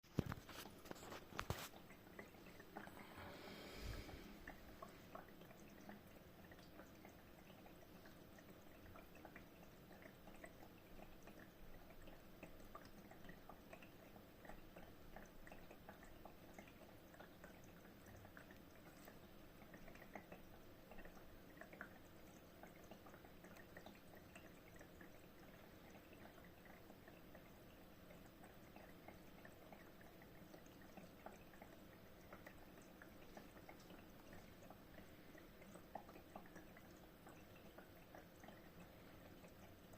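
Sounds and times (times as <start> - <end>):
water trickling and dripping: 0.1 - 39.9
faint hum: 1.8 - 39.9
small irregular ticks: 4.4 - 39.9.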